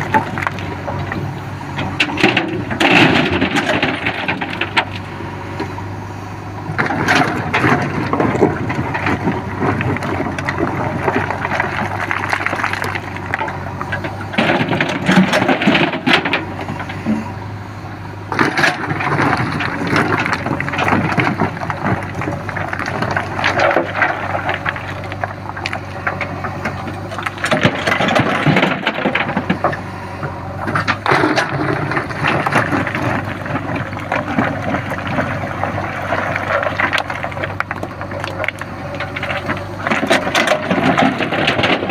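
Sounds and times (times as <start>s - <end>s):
bucket crunching and scraping earth: 0.0s - 5.2s, 6.7s - 17.4s, 18.2s - 41.9s
diesel engine running: 0.0s - 41.9s.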